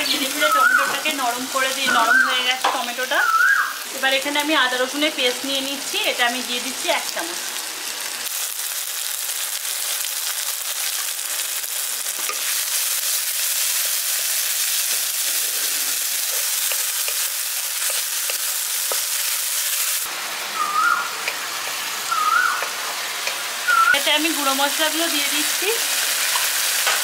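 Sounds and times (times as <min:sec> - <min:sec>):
paste sizzling in hot oil: 0:00.0 - 0:27.0.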